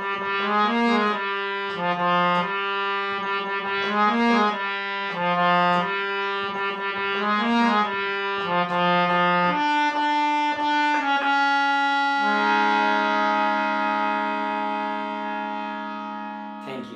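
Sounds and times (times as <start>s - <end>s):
harmonium playing: 0.0s - 16.9s.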